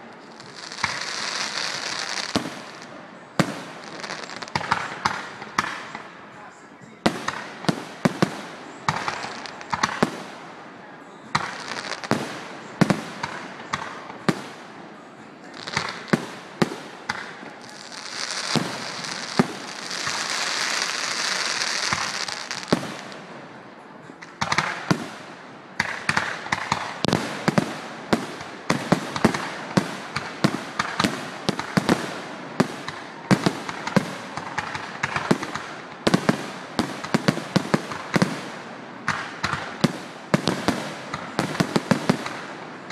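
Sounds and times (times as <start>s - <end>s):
fireworks bursting in sharp bangs: 0.0s - 42.9s
steady hiss: 0.0s - 42.9s.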